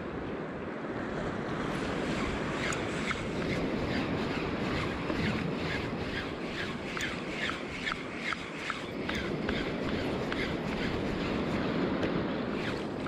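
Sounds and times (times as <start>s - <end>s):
sea: 0.0s - 13.0s
wind on microphone: 0.0s - 13.0s
fishing reel ticking: 2.0s - 13.0s.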